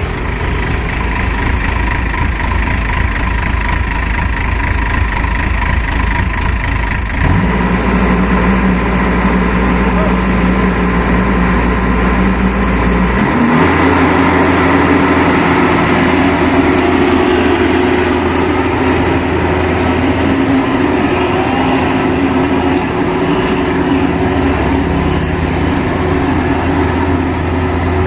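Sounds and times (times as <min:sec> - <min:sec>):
combine harvester engine running: 0:00.0 - 0:28.0.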